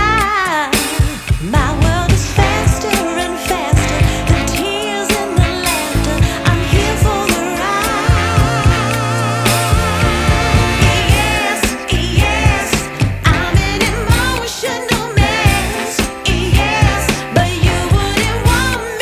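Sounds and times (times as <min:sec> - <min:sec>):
pop song with female vocals: 0:00.0 - 0:19.0.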